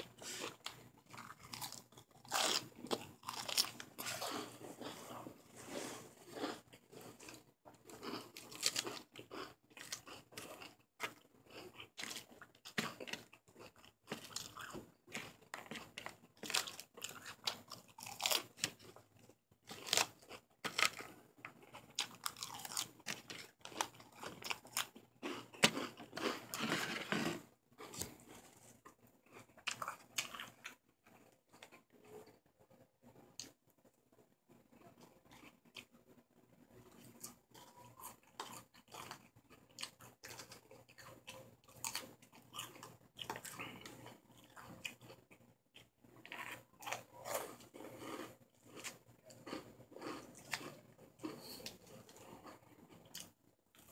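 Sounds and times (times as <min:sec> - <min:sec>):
person chewing crunchy lettuce: 0:00.0 - 0:32.3, 0:36.9 - 0:53.9.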